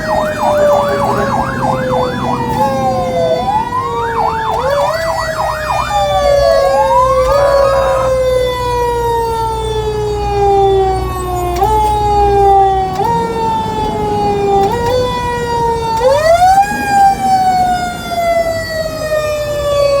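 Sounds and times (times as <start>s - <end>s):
fire engine siren: 0.0s - 20.0s
truck engine rumble: 0.0s - 20.0s.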